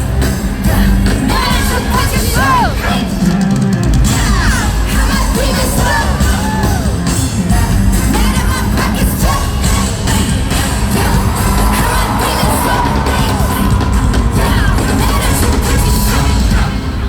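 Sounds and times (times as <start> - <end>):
bass-heavy backing track: 0.0 - 17.0
crowd noise: 0.0 - 17.0
person singing and yelling: 0.7 - 17.0.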